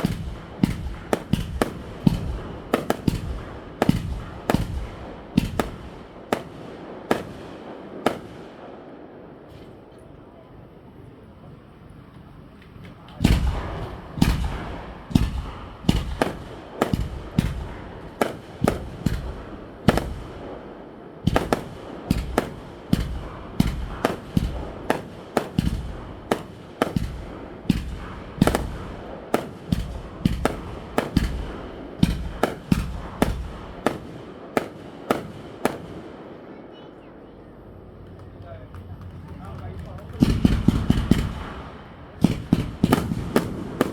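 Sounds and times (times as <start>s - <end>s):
firework shells bursting: 0.0s - 8.6s, 12.8s - 36.1s, 39.6s - 43.9s.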